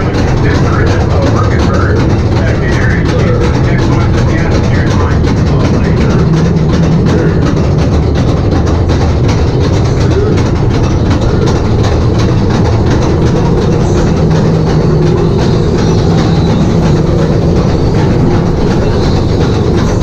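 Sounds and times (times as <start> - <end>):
ride train rumbling on track: 0.0 - 20.0.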